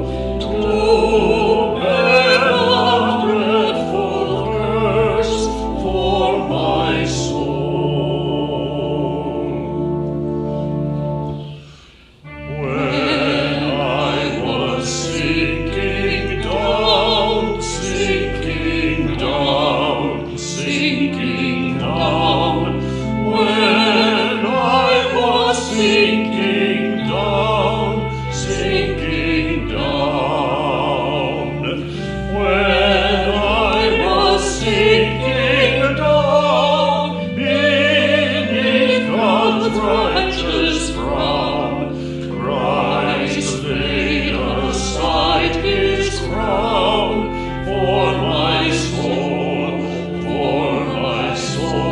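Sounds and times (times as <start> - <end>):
choir singing: 0.0 - 51.9
sustained low accompaniment: 0.0 - 51.9.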